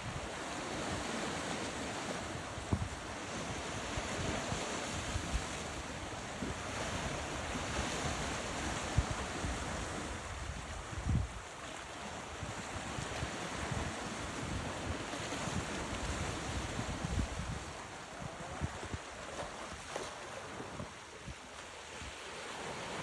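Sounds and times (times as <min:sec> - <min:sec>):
ocean surf on a beach: 0:00.0 - 0:23.0
wind buffeting microphone: 0:02.2 - 0:11.5, 0:12.2 - 0:22.2.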